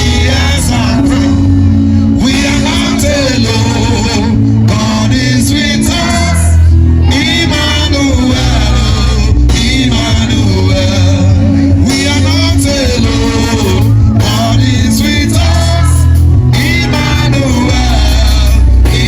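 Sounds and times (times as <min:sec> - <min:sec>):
gospel band playing: 0:00.0 - 0:19.0
voices singing: 0:00.0 - 0:19.0.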